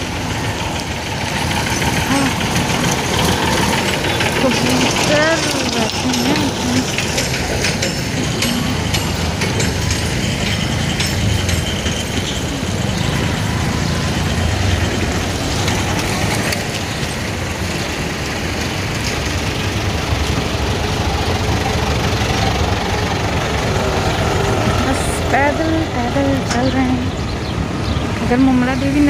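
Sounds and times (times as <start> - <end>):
bus engine idling: 0.0 - 29.0
street traffic rumble: 0.0 - 29.0.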